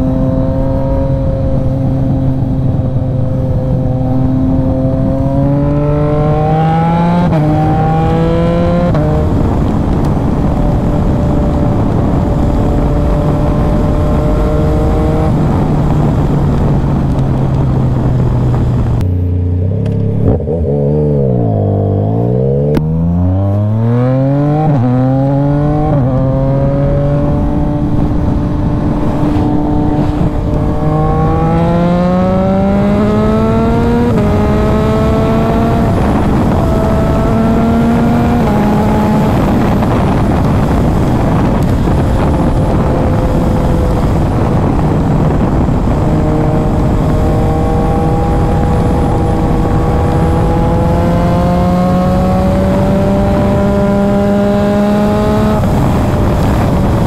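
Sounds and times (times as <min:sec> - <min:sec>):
motorcycle engine revving: 0:00.0 - 0:57.0
road noise: 0:00.0 - 0:57.0
rushing wind: 0:00.0 - 0:57.0.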